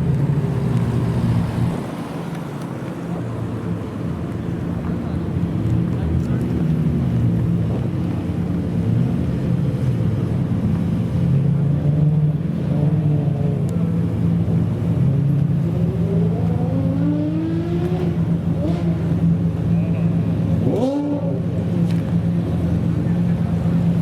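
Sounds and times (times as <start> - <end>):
car engine rumbling and accelerating: 0.0 - 24.0.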